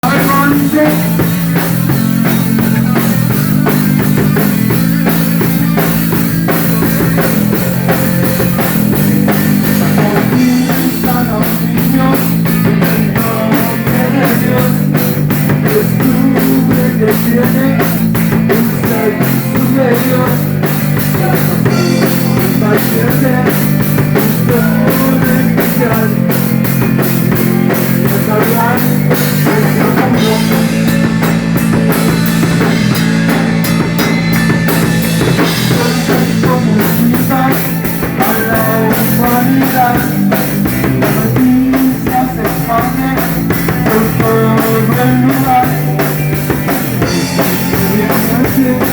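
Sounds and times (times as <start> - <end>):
drum kit beat: 0.0 - 48.9
electric guitar: 0.0 - 48.9
repeating bass line: 0.0 - 48.9.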